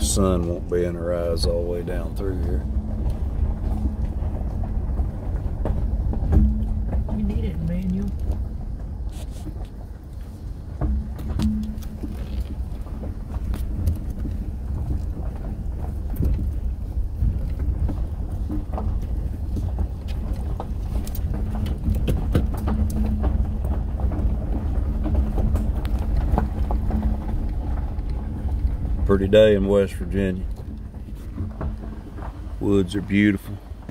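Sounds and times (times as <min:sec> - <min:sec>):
car rumble inside cabin: 0:00.0 - 0:33.9
gravel clicking under tyres: 0:00.0 - 0:33.9.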